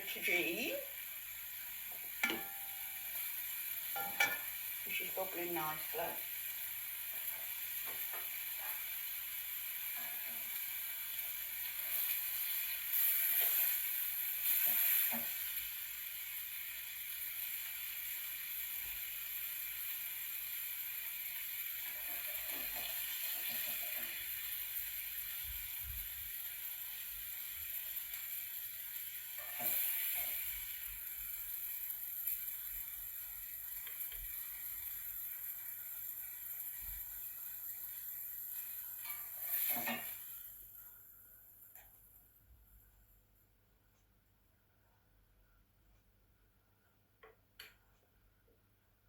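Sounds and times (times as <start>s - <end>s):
food bubbling and sizzling: 0.0s - 42.0s.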